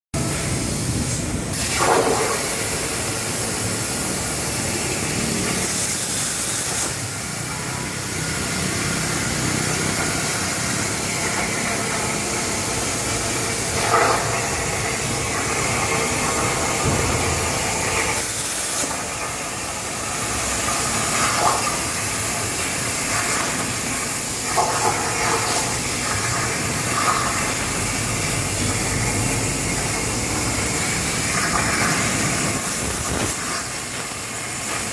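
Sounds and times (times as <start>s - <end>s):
plasma cutter torch hissing: 0.2s - 34.9s.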